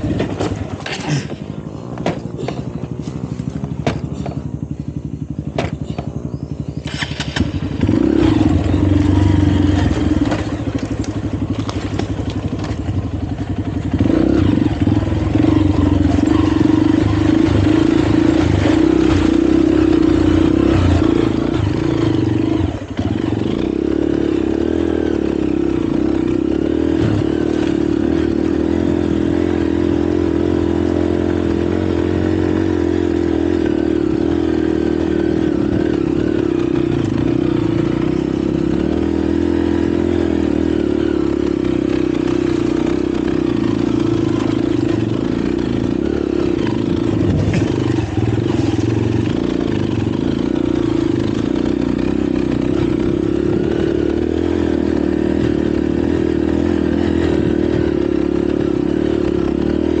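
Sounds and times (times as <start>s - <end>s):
motorcycle engine pulling uphill: 0.0s - 60.0s.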